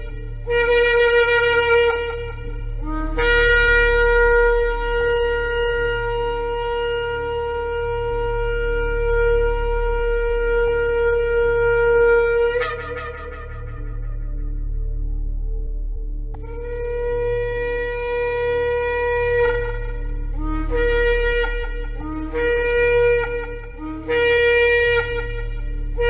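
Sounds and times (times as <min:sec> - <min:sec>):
shofar blast: 0:00.0 - 0:14.6, 0:16.4 - 0:26.0
low steady drone: 0:00.0 - 0:26.0.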